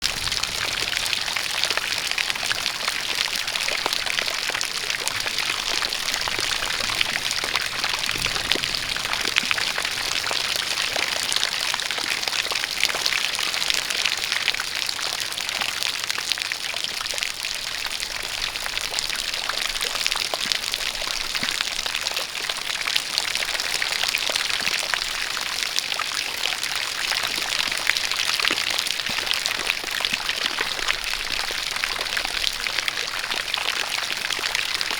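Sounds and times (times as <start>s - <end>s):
rain patter: 0.0s - 34.9s
water pouring from spout: 0.0s - 34.9s.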